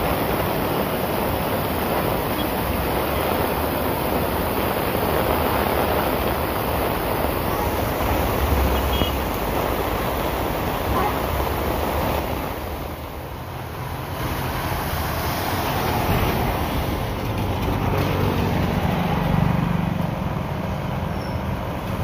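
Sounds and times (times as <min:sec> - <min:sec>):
heavy rain pouring: 0:00.0 - 0:22.0
vehicles splashing through water: 0:00.0 - 0:22.0.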